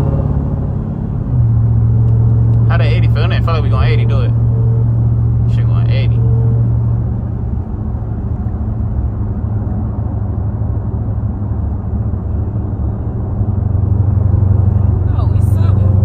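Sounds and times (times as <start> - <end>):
car engine droning: 0.0 - 16.0
road noise: 0.0 - 16.0.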